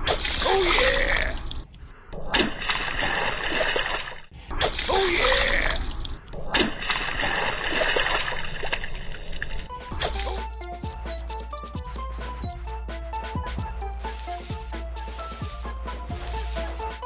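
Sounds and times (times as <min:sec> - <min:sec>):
water splashing and sloshing: 0:00.0 - 0:12.4, 0:13.1 - 0:17.0.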